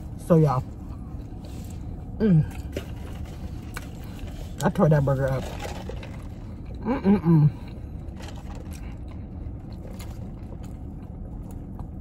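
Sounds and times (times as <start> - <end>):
low rumble of car interior: 0.0 - 12.0.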